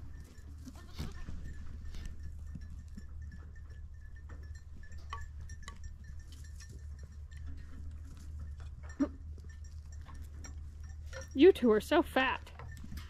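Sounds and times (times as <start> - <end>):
faint clinks and ticks: 0.0 - 13.0
goats moving about on straw: 0.0 - 13.0.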